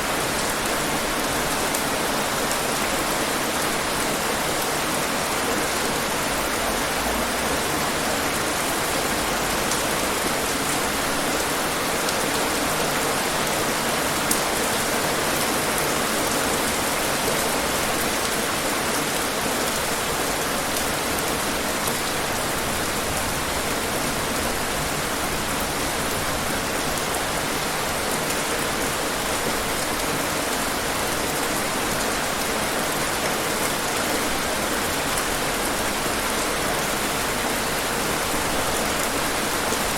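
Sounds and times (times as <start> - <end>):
rain falling on hard surfaces: 0.0 - 39.9.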